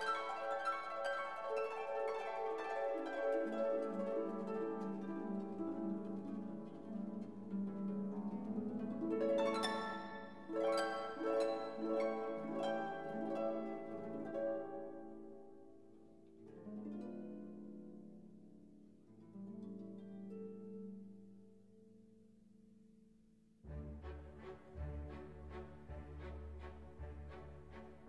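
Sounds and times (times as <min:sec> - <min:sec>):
plucked instrumental music: 0:00.0 - 0:21.2, 0:23.6 - 0:28.0.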